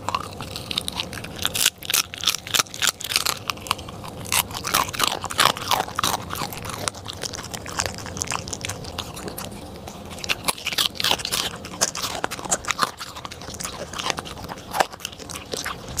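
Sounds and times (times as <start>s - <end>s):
dog chewing and licking plate: 0.0s - 16.0s.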